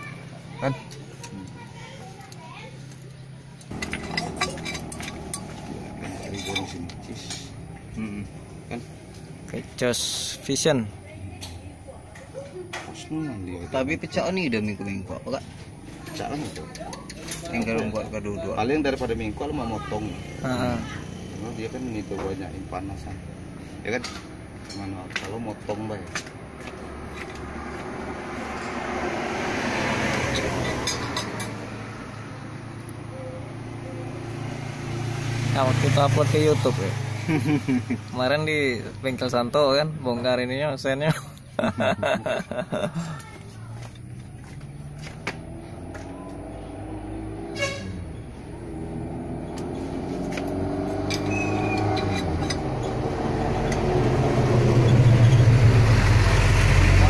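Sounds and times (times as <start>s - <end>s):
vehicle passing: 0.0s - 57.0s.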